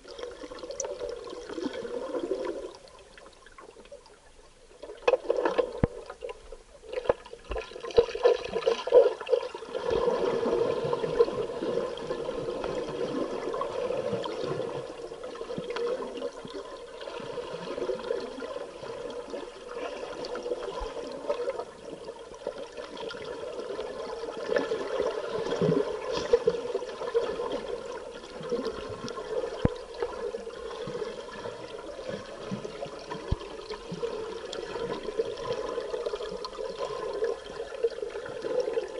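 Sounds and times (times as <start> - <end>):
underwater bubbling and gurgling: 0.0 - 38.9.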